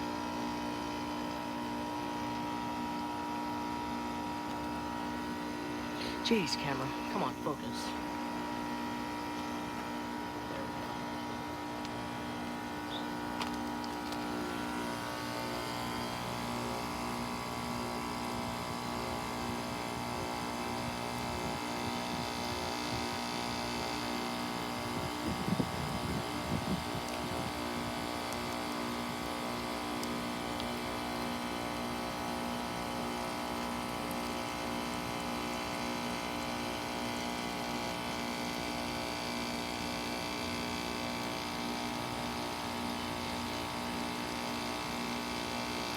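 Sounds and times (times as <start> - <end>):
compressor hum with tones: 0.0 - 45.9.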